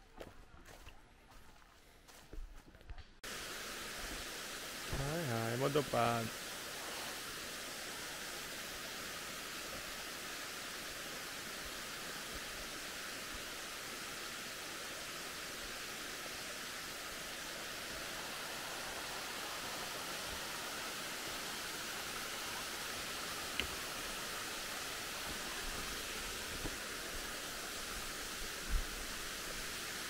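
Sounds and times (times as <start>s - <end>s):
outdoor rushing hiss: 3.2s - 30.0s.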